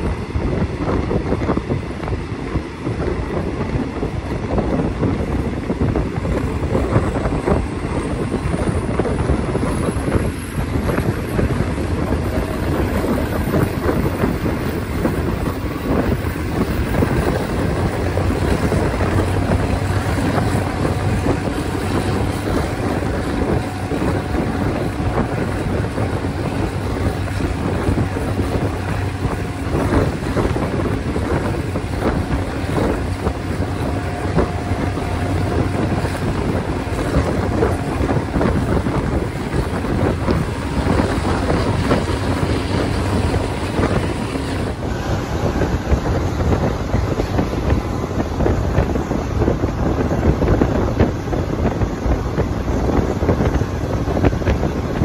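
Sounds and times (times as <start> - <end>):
rattling clicks from train wheels: 0.0 - 44.9
train running noise: 0.0 - 55.0
wind buffeting microphone: 0.0 - 55.0.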